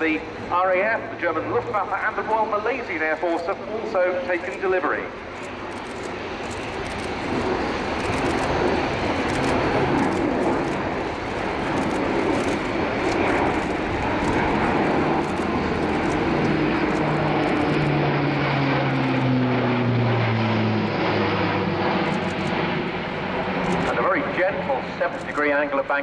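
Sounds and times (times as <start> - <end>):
turboprop aircraft in flight: 0.0 - 26.0.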